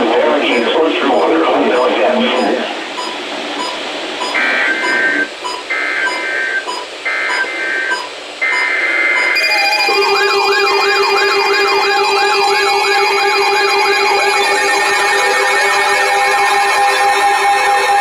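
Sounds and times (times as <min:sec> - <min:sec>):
data tone bursts: 0:00.0 - 0:18.0
warbling weather alert alarms: 0:00.0 - 0:18.0.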